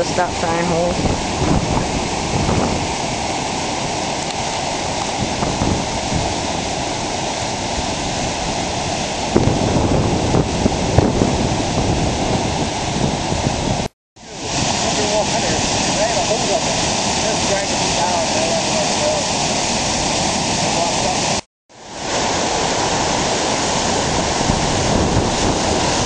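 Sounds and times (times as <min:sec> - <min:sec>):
creek rushing over rocks: 0:00.0 - 0:26.0.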